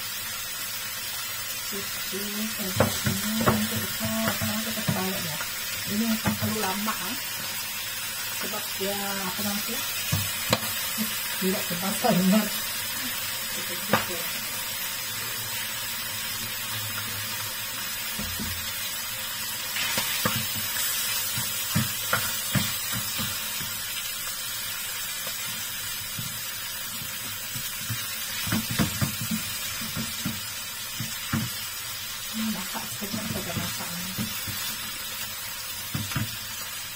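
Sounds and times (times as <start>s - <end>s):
fish sizzling in butter: 0.0s - 36.9s.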